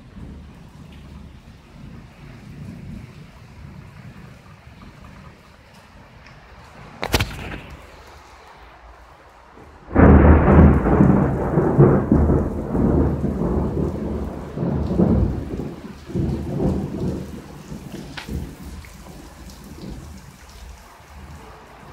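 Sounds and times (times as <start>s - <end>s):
thunder rumbling: 0.0s - 21.5s
heavy rain hiss: 0.0s - 21.9s.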